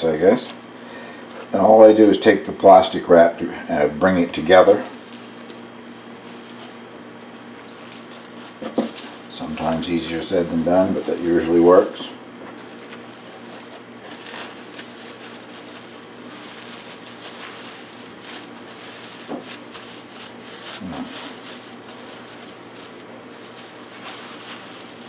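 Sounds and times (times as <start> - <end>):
plastic wrap crinkling: 0.0 - 25.0.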